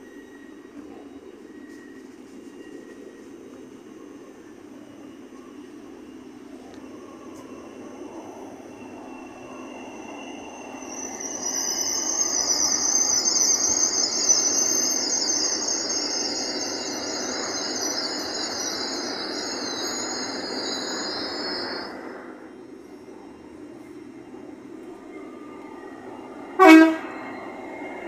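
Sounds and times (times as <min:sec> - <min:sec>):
high wavering wheel squeal: 0:00.0 - 0:23.0, 0:23.9 - 0:28.0
train wheels rumbling on rail: 0:00.0 - 0:28.0.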